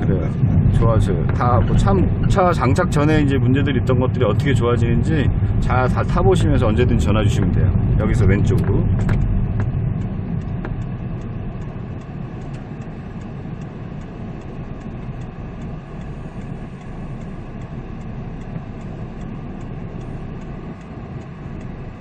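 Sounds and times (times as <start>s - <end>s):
car engine hum inside cabin: 0.0s - 22.0s.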